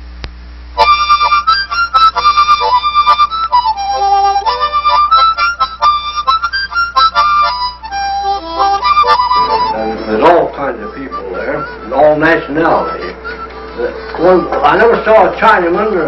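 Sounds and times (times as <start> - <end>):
harmonica playing quick notes: 0.8 - 16.0.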